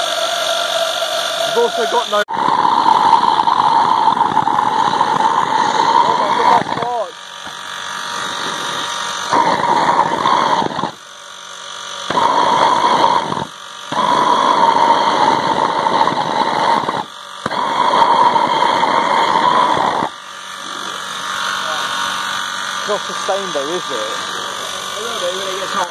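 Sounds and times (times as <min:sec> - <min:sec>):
compressed air rushing through nozzle: 0:00.0 - 0:25.9.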